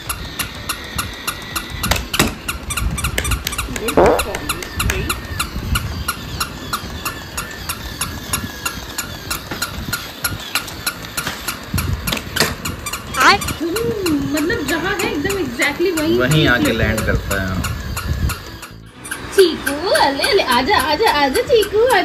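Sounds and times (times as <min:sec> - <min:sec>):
toy motor and gears whirring: 0:00.0 - 0:22.0.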